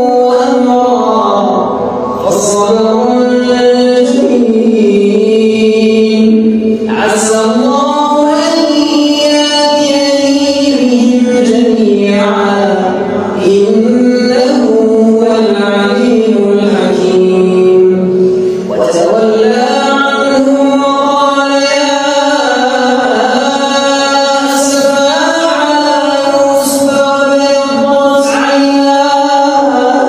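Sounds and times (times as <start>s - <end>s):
man reciting melodically: 0.0s - 30.0s.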